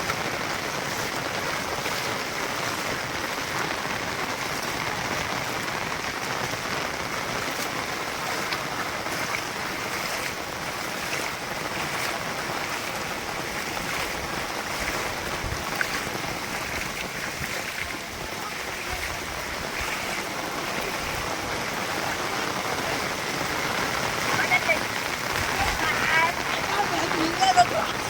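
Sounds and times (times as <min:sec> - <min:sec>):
rush of rain and running water: 0:00.0 - 0:28.0.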